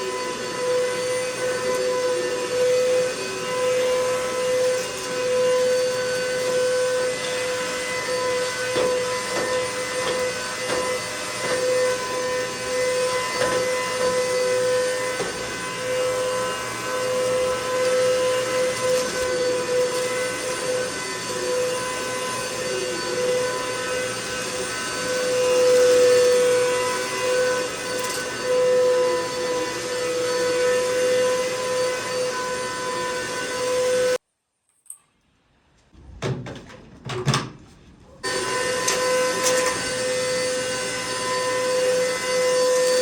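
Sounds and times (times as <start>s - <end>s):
vacuum cleaner running: 0.0s - 34.2s, 38.2s - 43.0s.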